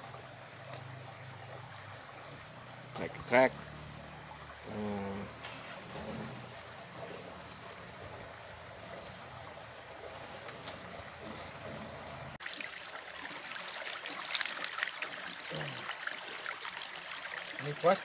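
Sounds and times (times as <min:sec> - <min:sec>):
stream running over rocks: 0:00.0 - 0:18.0
water trickling and splashing: 0:00.0 - 0:18.0.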